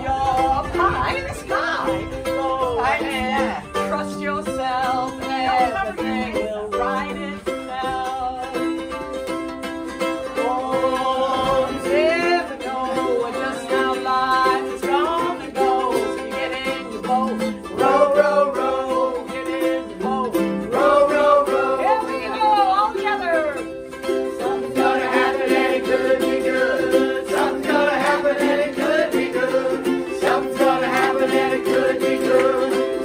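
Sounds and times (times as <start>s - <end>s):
women singing together: 0.0s - 8.6s, 10.4s - 23.5s, 24.1s - 33.0s
strummed ukulele and mandolin: 0.0s - 33.0s.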